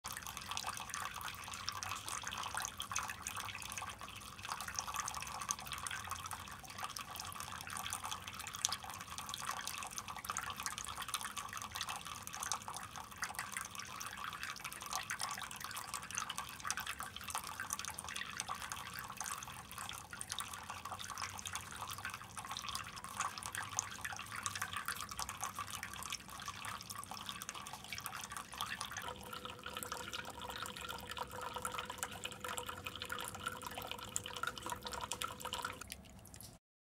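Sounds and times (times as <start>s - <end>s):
fountain water trickling: 0.1s - 36.5s.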